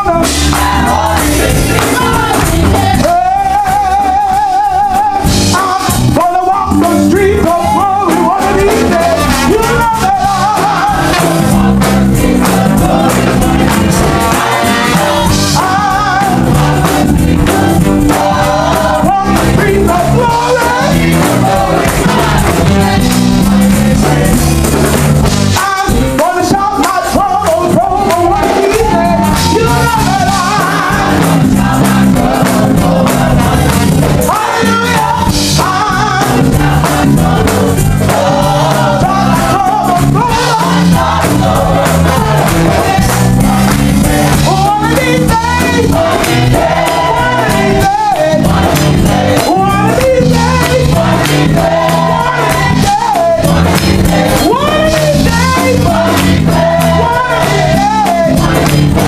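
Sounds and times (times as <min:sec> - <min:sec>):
bass line: 0:00.0 - 0:59.0
gospel choir singing: 0:00.0 - 0:59.0
choir clapping: 0:00.2 - 0:04.5, 0:08.6 - 0:59.0.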